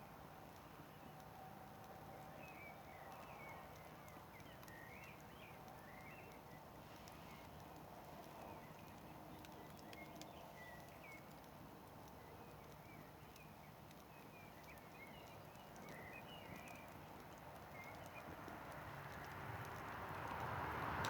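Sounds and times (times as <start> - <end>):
campfire crackling: 0.1 - 21.0.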